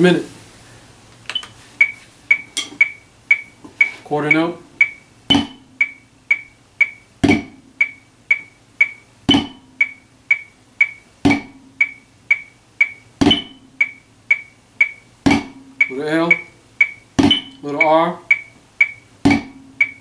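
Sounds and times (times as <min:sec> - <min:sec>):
metronome clicking: 0:01.3 - 0:07.0, 0:07.8 - 0:20.0.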